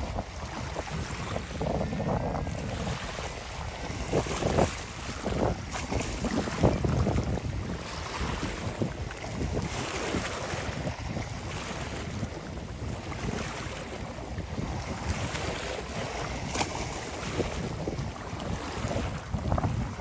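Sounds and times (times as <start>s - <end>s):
waves washing: 0.0s - 20.0s
wind buffeting microphone: 0.0s - 20.0s.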